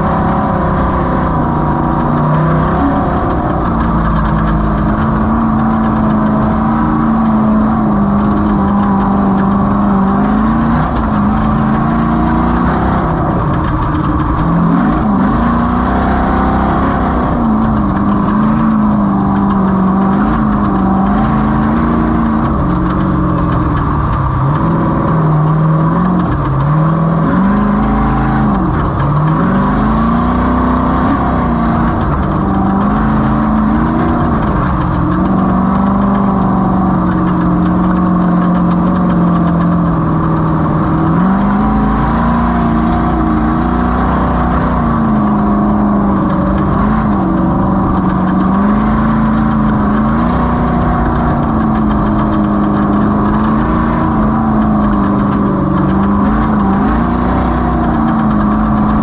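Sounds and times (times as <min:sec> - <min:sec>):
race vehicle engine revving: 0:00.0 - 0:59.0.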